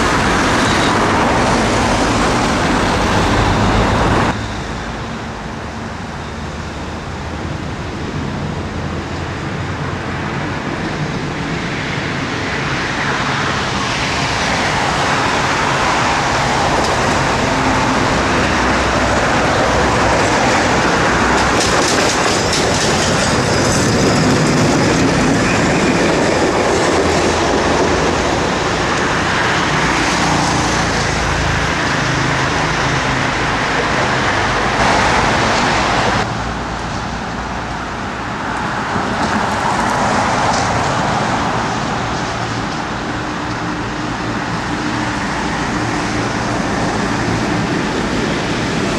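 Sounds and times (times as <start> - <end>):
tram wheels on rails: 0.0 - 48.9.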